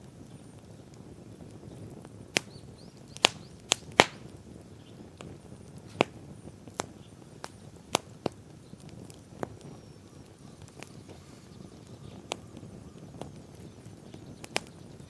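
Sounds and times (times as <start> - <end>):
campfire pops: 0.0 - 15.0
fire hissing: 0.0 - 15.0.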